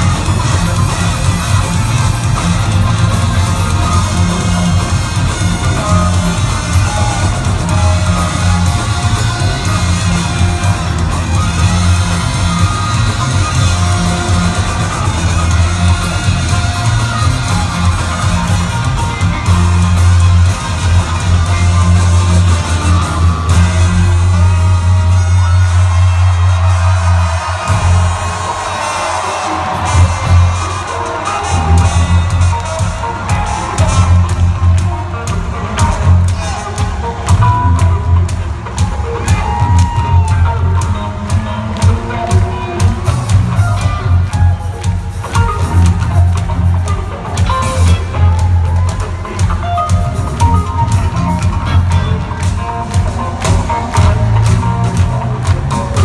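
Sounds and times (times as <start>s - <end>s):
heavy bass line: 0.0s - 38.8s, 45.4s - 56.0s
live rock band: 0.0s - 56.0s.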